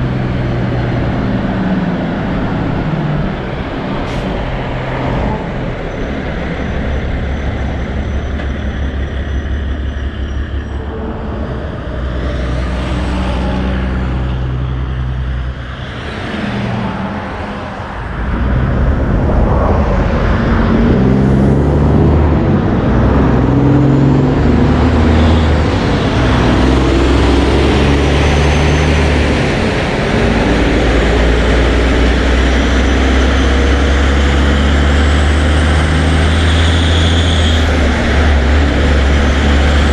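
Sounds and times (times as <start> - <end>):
road noise: 0.0 - 39.9
trucks passing: 0.0 - 39.9.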